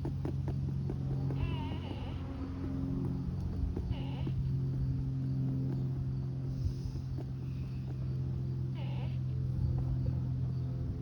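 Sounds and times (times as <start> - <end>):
droning whimper from speaker: 0.8 - 11.0.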